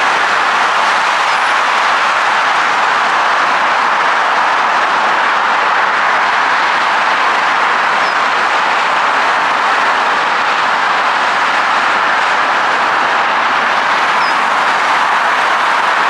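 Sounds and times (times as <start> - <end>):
dense freeway traffic: 0.0 - 16.0.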